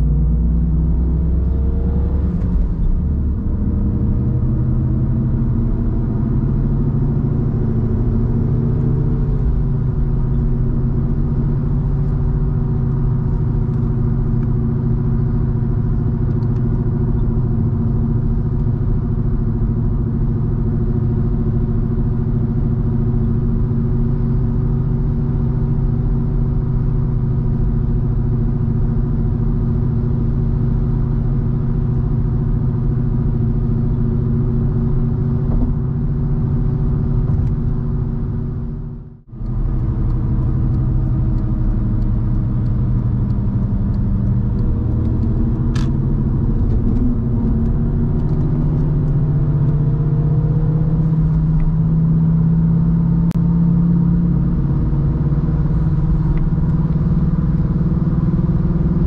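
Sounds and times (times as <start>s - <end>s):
car engine drone: 0.0s - 59.0s
road rumble: 0.0s - 59.0s.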